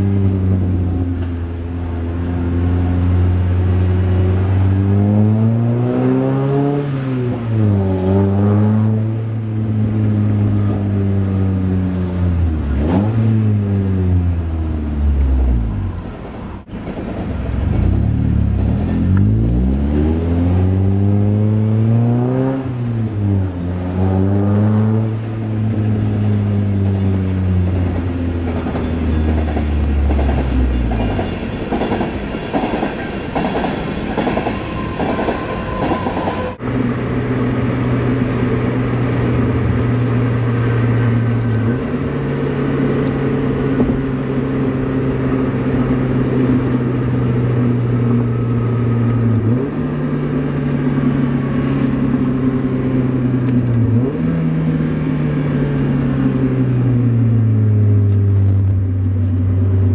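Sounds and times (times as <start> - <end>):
car engine and exhaust: 0.0 - 59.9.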